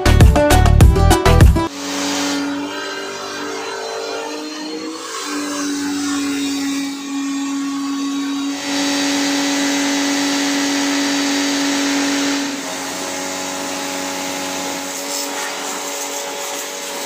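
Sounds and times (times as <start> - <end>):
pressure washer motor hum: 1.7 - 17.0
water jet hissing: 1.7 - 17.0.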